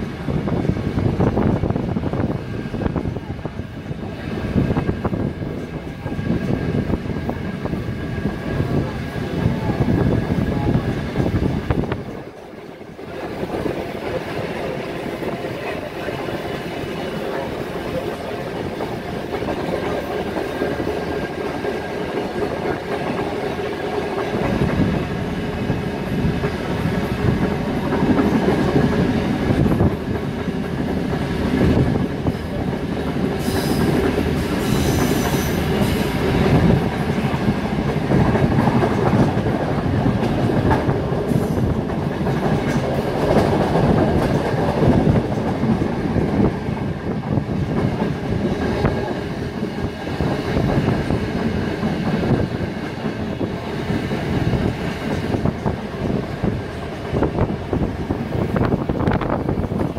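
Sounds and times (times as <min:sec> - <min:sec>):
steam train rumbling on track: 0:00.0 - 0:59.9.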